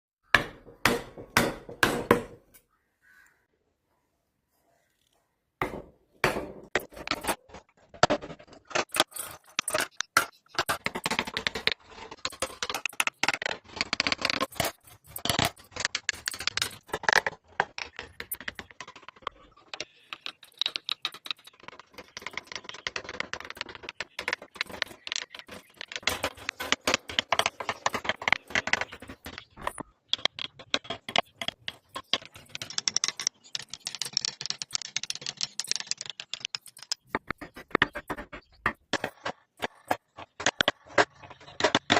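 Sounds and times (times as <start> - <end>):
chisels tapping and scraping wood: 0.2 - 2.6, 5.6 - 41.9.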